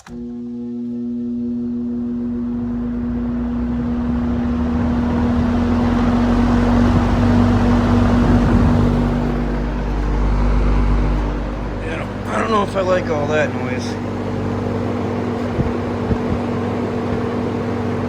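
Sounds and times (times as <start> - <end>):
electric fan motor hum: 0.0 - 18.0
fan air rushing: 2.4 - 18.0.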